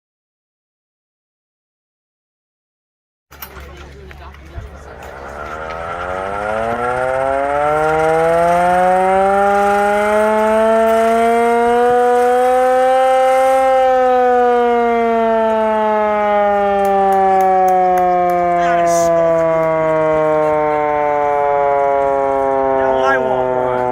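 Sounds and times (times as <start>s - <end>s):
hand-cranked air raid siren wailing: 4.4s - 23.9s.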